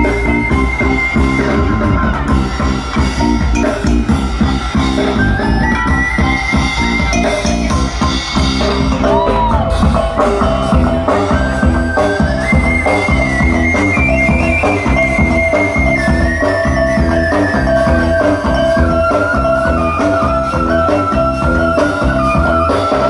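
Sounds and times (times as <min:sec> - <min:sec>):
high held melody line: 0:00.0 - 0:23.0
music with drum beat: 0:00.0 - 0:23.0.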